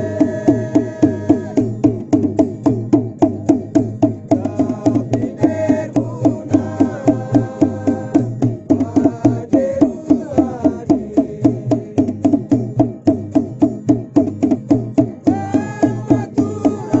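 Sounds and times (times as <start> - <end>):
drums beaten fast: 0.0 - 17.0.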